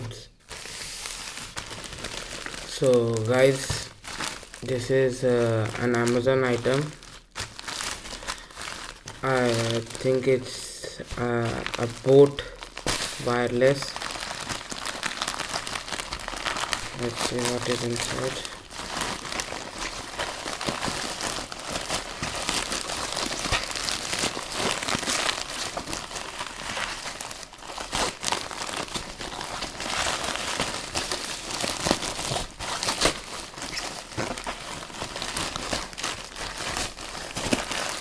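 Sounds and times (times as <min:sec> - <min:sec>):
packaging crinkling: 0:00.0 - 0:38.0.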